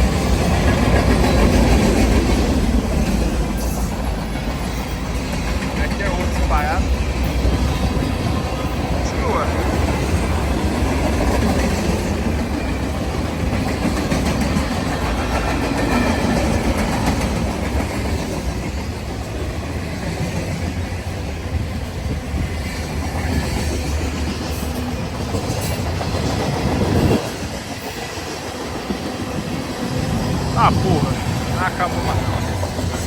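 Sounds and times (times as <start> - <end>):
freight train rolling past: 0.0 - 33.0
wheels clickety-clack on rail: 0.0 - 33.0.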